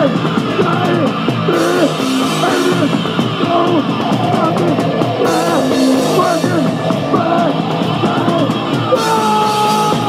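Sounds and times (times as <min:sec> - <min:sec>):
distorted guitars and bass: 0:00.0 - 0:10.0
drums: 0:00.0 - 0:10.0.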